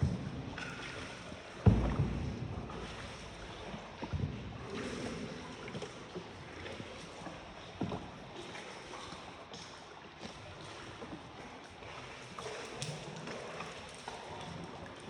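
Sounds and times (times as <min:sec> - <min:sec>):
boat knocks and splashes: 0:00.0 - 0:15.0
water noise: 0:00.0 - 0:15.0.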